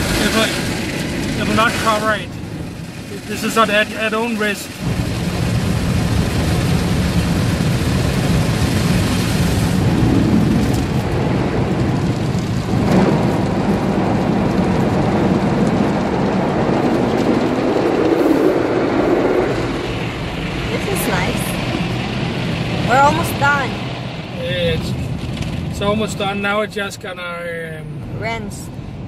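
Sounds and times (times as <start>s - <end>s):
car wash brushes rumbling: 0.0s - 29.0s.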